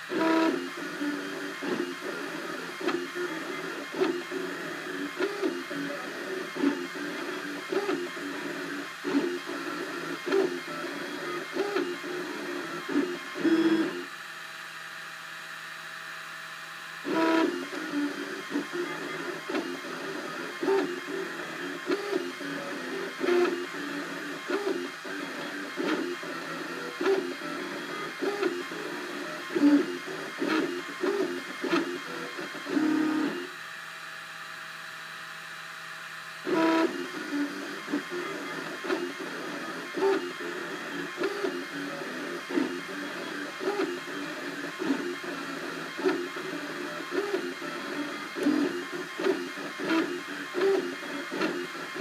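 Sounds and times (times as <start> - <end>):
printer stepper motors whining: 0.0 - 52.0
steady machine hum: 0.0 - 52.0.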